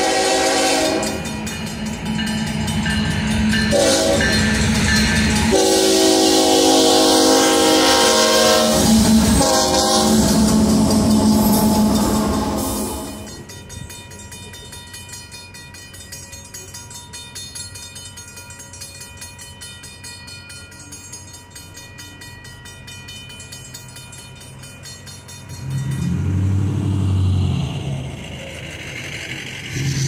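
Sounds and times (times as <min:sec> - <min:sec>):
railroad crossing bell ringing: 0:00.0 - 0:30.0.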